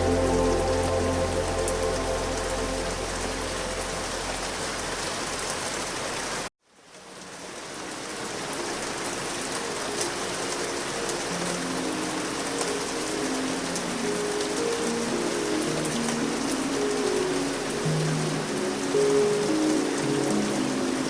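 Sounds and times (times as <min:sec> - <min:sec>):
soft ambient music: 0:00.0 - 0:05.4, 0:07.8 - 0:21.0
steady rain: 0:00.0 - 0:21.0.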